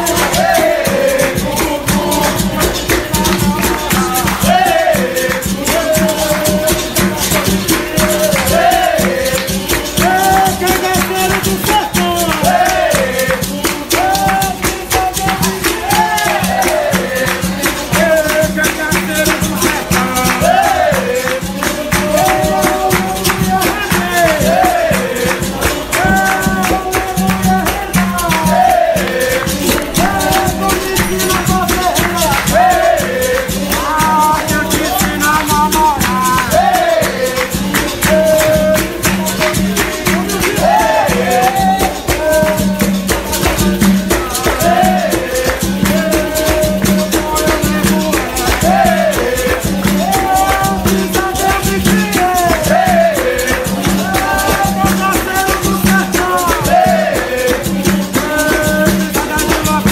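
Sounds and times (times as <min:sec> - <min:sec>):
percussion beat: 0:00.0 - 0:59.9
person singing: 0:00.0 - 0:59.9
shaken rattles clicking: 0:00.0 - 0:59.9.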